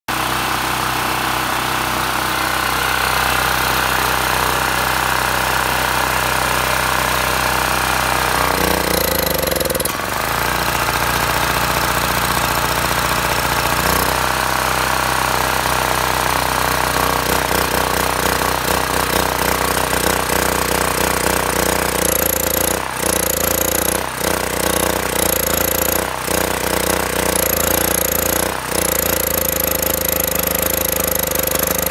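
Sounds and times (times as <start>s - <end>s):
generator engine running: 0.1s - 31.9s.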